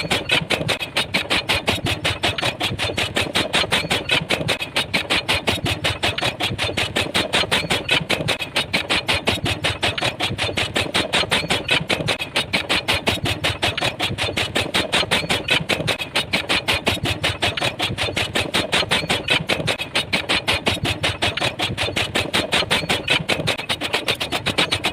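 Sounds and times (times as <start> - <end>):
pile driver pounding: 0.0 - 24.9.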